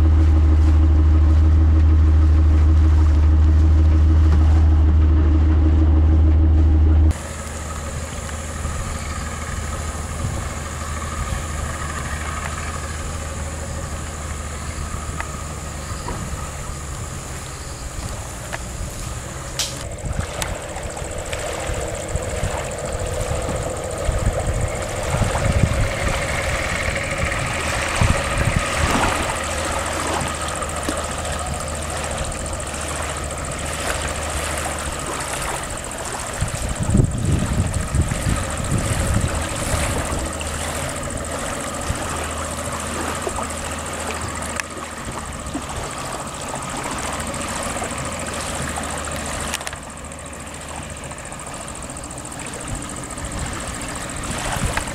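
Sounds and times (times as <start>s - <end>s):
outboard motor running: 0.0s - 54.9s.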